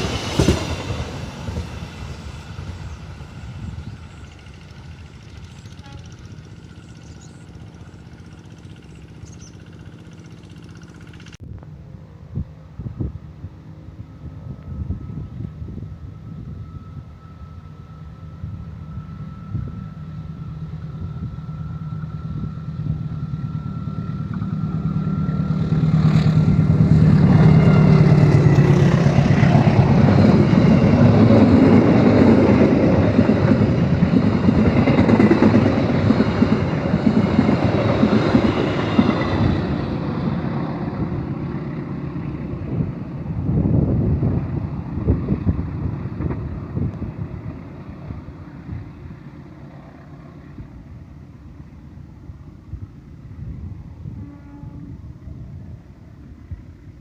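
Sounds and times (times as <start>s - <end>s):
train wheels rumbling and rattling: 0.0s - 11.4s, 19.6s - 54.4s
train engine hum: 0.0s - 57.0s.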